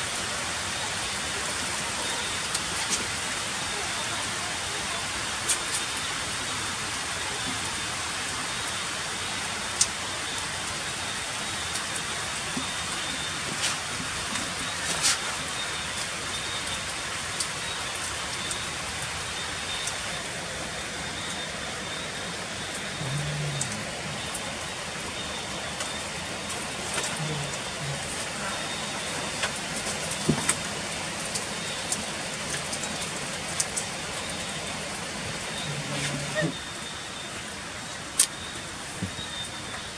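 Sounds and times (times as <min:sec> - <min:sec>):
heavy rain on stone paving: 0:00.0 - 0:39.9
water dripping: 0:02.0 - 0:39.9.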